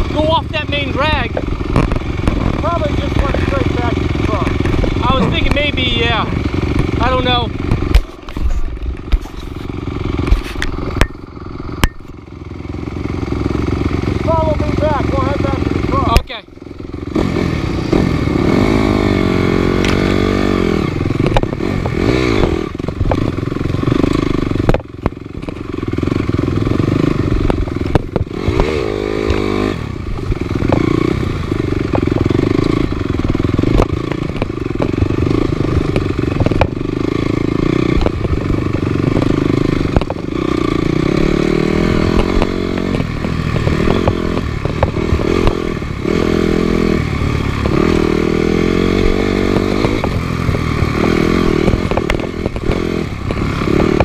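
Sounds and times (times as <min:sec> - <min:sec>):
bike knocks and rattles: 0:00.0 - 0:17.4, 0:21.0 - 0:54.0
off-road motorcycle engine: 0:00.0 - 0:54.0.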